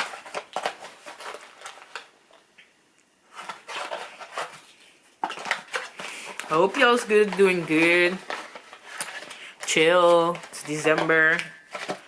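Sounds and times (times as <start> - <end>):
packaging rustling: 0.0 - 2.2, 3.2 - 12.0.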